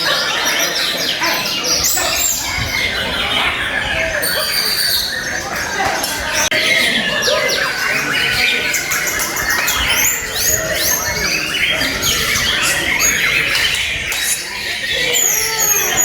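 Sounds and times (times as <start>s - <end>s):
songbirds singing whistled phrases: 0.0s - 16.0s.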